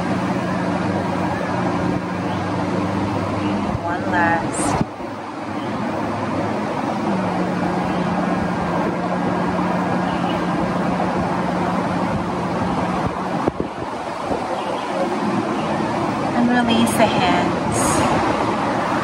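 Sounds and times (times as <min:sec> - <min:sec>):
rushing background noise: 0:00.0 - 0:19.0.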